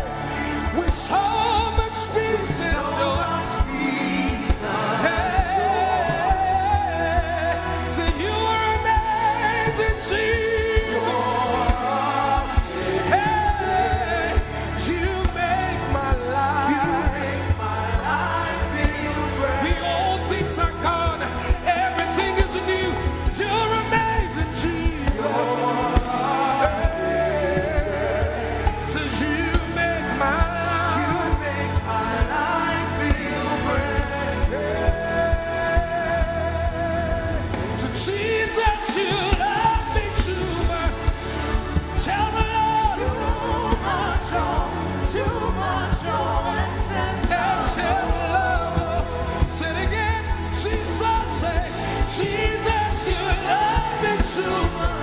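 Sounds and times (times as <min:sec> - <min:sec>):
band with bass and drums: 0:00.0 - 0:55.0
gospel singing: 0:00.0 - 0:55.0.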